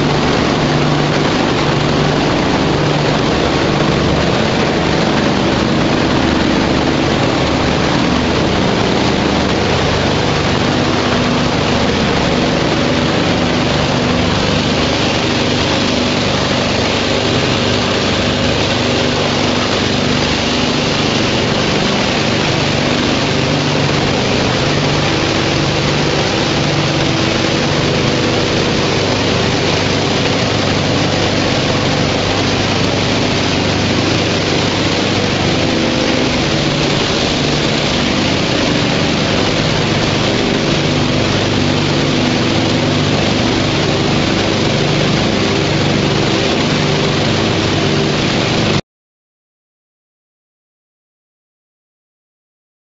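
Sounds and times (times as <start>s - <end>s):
machinery loud mechanical din: 0.0s - 48.8s
steady hums: 0.0s - 48.8s.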